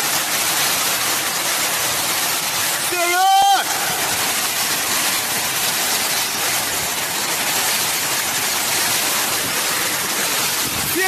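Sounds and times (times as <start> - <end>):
torrential rain hiss: 0.0 - 11.0.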